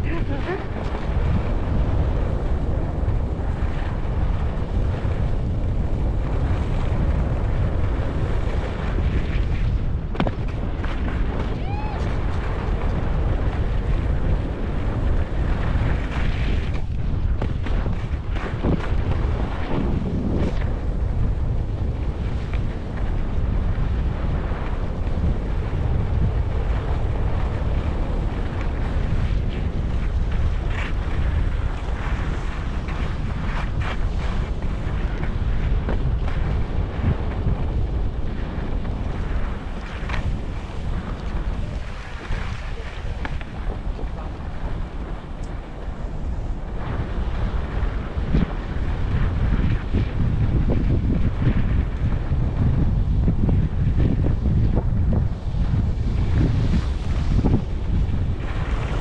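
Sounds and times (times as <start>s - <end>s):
skis scraping packed snow: 0.0s - 59.0s
wind buffeting microphone: 0.0s - 59.0s.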